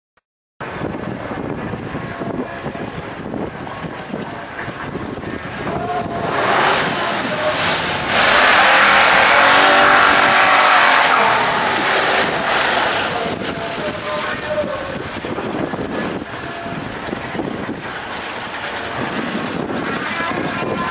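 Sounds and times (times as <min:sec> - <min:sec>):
drag racing car engines: 0:00.6 - 0:20.9.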